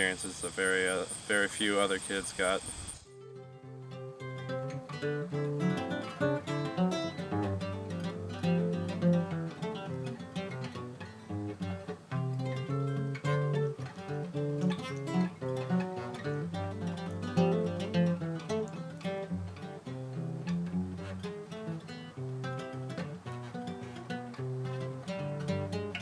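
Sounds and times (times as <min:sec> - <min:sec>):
acoustic guitar melody: 0:00.0 - 0:26.0.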